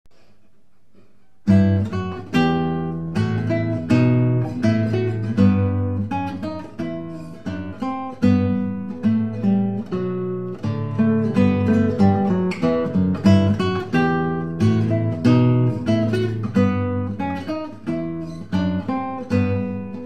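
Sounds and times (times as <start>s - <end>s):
acoustic guitar music: 0.1s - 20.0s.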